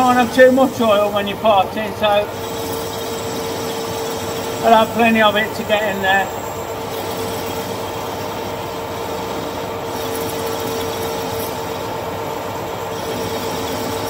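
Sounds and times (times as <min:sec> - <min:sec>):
metal lathe running: 0:00.0 - 0:14.0
tool cutting metal tube: 0:00.0 - 0:14.0.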